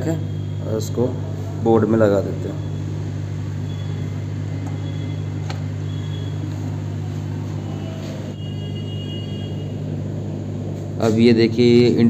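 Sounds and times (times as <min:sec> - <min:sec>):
low electric hum of pump: 0:00.0 - 0:12.0.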